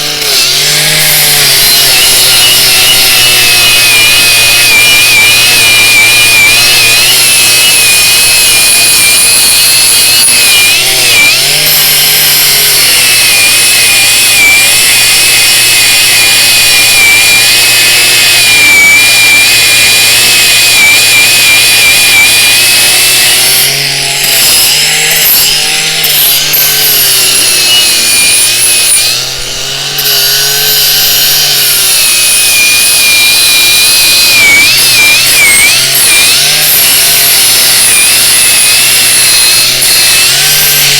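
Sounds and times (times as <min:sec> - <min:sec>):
angle grinder whining: 0:00.0 - 0:40.9.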